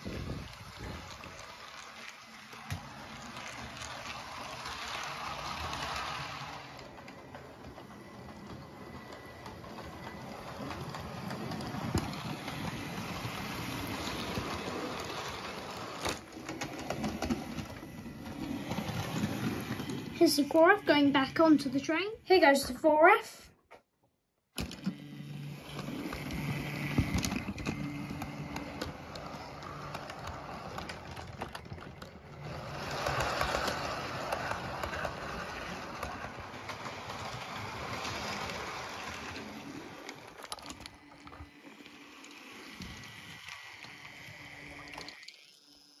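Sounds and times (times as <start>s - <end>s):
model train motor hum: 0.0s - 21.6s, 24.9s - 46.0s.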